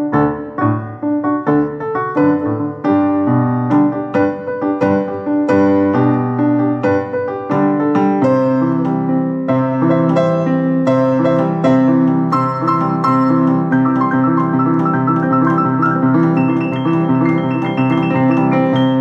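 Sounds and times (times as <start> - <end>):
piano playing chords and melody: 0.0 - 19.0.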